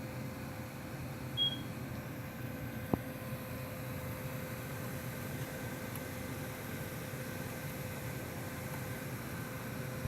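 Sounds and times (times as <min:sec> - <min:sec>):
computer fans whirring: 0:00.0 - 0:10.0
faint steady whine: 0:00.0 - 0:10.0.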